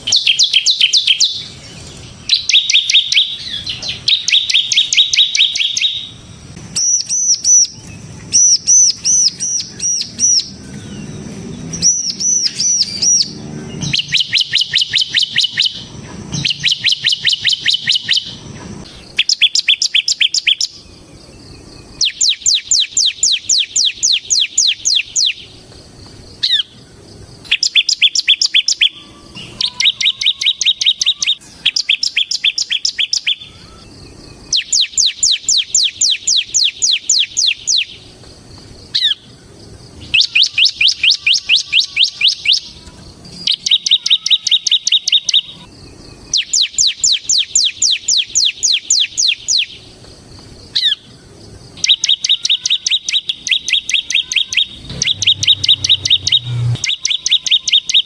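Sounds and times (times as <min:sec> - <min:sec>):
bird singing rapid rattling notes: 0:00.0 - 0:58.0.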